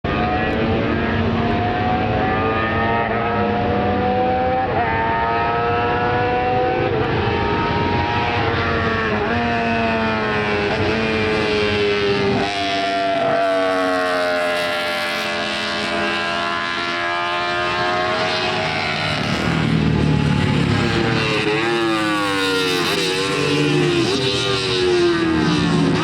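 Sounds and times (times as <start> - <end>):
racing motorcycle engine revving: 0.1 - 26.0.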